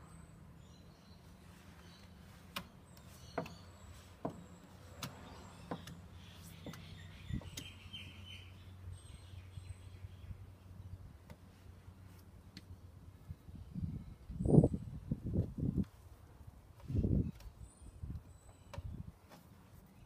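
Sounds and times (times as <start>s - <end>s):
birds chirping faintly: 0.0s - 15.0s, 16.8s - 20.0s.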